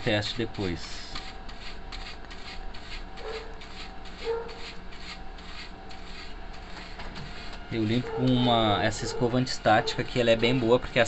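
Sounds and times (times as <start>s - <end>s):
brush scrubbing circuit board: 0.6s - 10.4s.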